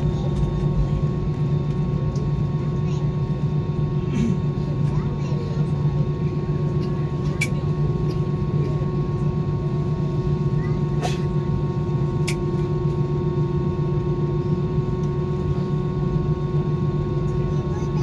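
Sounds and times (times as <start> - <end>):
jet engine cabin drone: 0.0 - 18.0.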